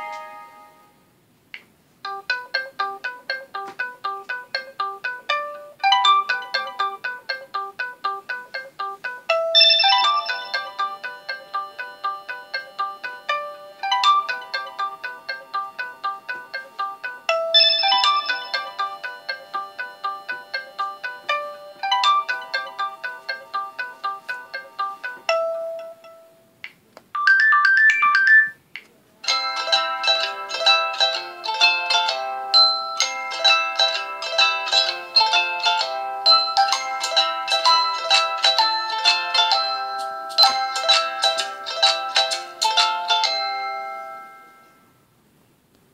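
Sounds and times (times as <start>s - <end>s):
plucked-string ringtone melody: 0.0s - 1.0s, 2.0s - 26.4s, 27.2s - 28.6s, 29.2s - 45.0s.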